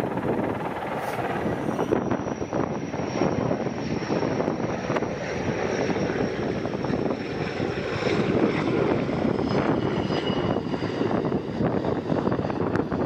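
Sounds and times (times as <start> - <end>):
helicopter rotor fluttering: 0.0 - 13.0
high turbine whine: 0.0 - 13.0.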